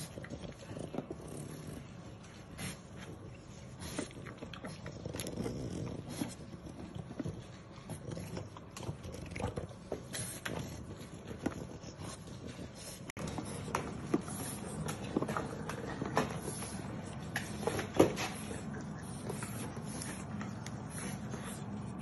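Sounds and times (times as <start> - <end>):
dogs breathing: 0.0 - 22.0.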